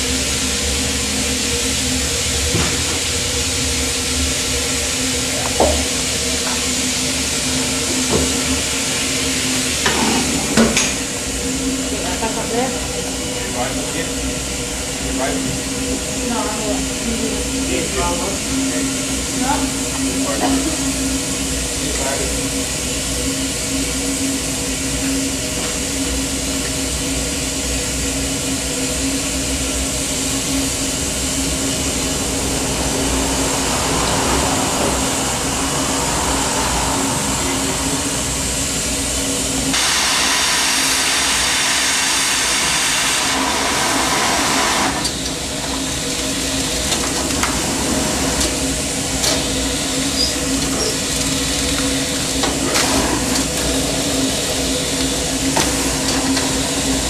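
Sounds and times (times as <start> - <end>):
rush of escaping steam: 0.0 - 57.0
steam locomotive hissing: 0.0 - 57.0.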